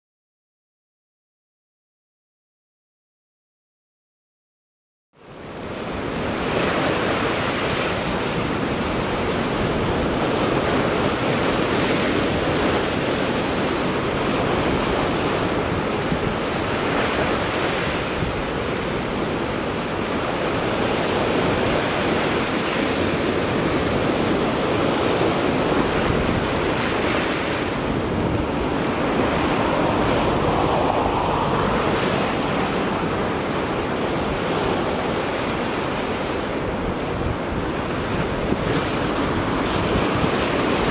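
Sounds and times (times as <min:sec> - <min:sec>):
small waves lapping on beach: 0:05.3 - 0:40.9
wind buffeting microphone: 0:05.6 - 0:40.9.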